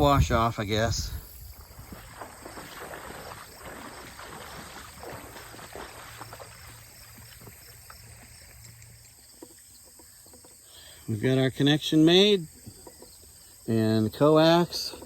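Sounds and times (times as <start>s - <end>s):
creek water splashing: 0.0s - 15.0s.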